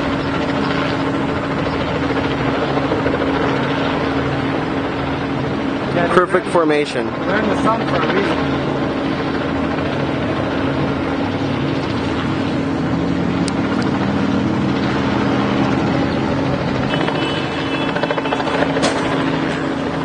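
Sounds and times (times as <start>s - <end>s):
helicopters hovering: 0.0s - 20.0s.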